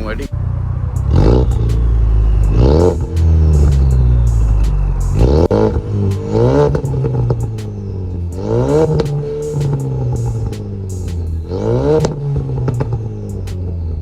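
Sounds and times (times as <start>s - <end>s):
car engine idling: 0.0s - 14.0s
car engine revving: 0.0s - 14.0s.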